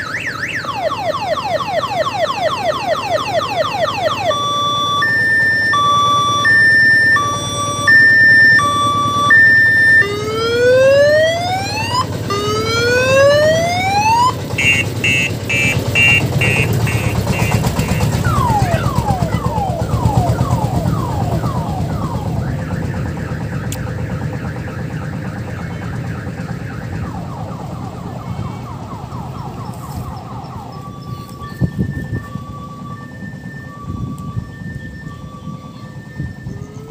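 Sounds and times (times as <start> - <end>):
electronic siren cycling tones: 0.0 - 36.9
vehicle engine rumbling: 0.0 - 36.9.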